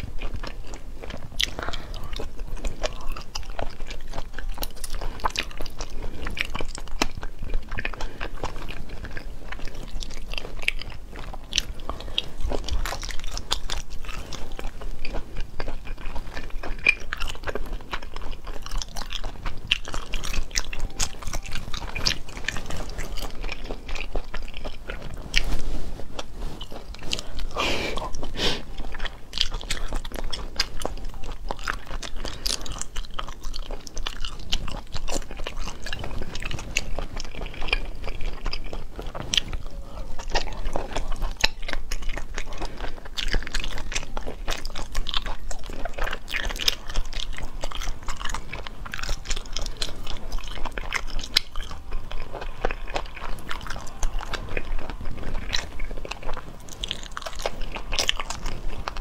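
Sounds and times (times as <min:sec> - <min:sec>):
crunchy chewing: 0:00.0 - 0:59.0
wet mouth sounds: 0:00.0 - 0:59.0.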